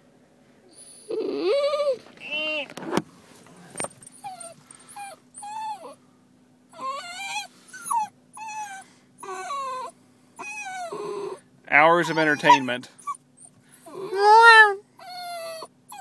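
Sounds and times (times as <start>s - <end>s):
dog whimpering and whining: 0.7s - 2.8s, 4.0s - 6.0s, 6.7s - 16.0s.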